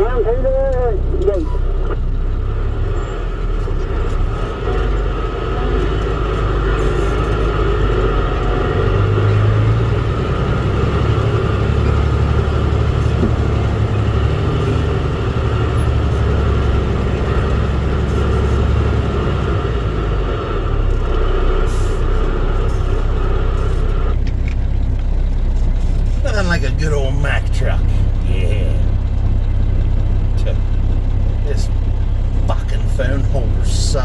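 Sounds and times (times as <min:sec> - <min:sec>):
road noise: 0:00.0 - 0:34.0
truck engine rumble: 0:00.0 - 0:34.0.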